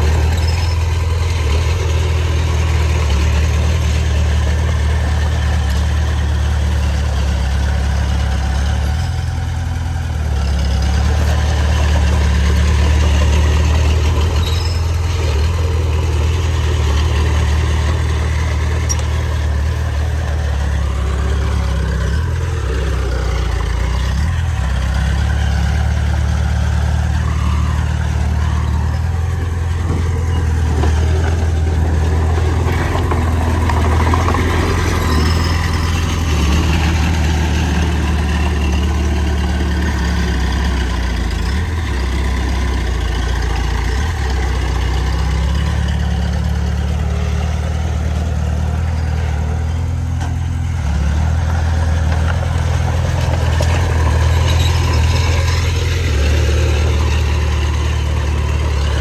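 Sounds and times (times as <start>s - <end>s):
heavy machinery engine humming: 0.0s - 59.0s.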